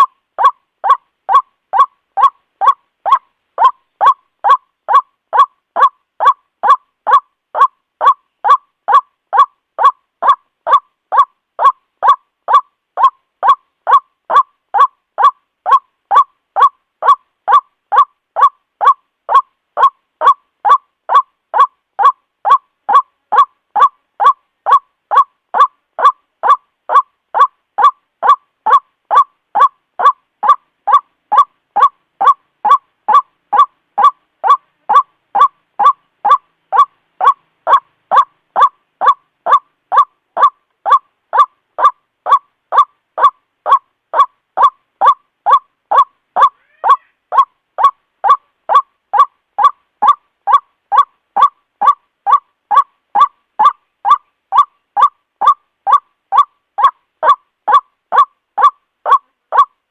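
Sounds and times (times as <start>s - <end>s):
waterhen calling: 0.0s - 59.7s.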